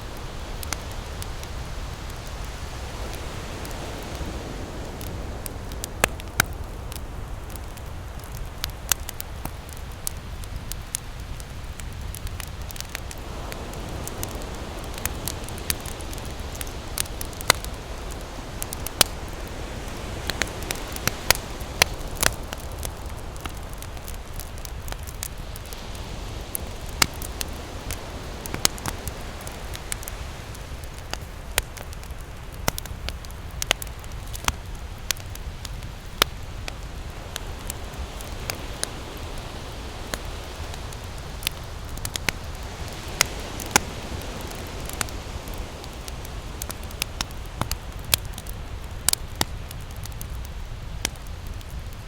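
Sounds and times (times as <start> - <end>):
ocean surf rumbling: 0.0 - 51.3
campfire crackling and popping: 0.0 - 52.0.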